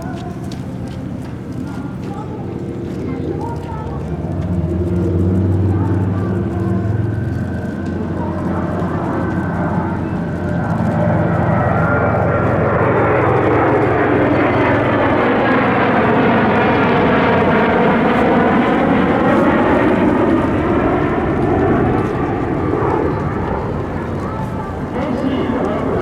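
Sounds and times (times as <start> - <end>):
military aircraft engine roar: 0.0 - 26.0.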